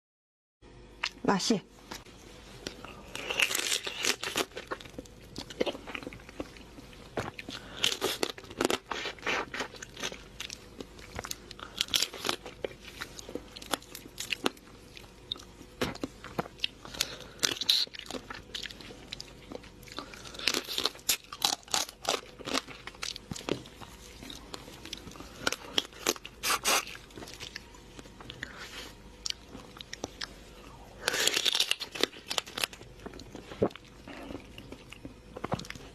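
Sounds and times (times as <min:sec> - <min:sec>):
person chewing crunchy food: 0:02.5 - 0:35.9.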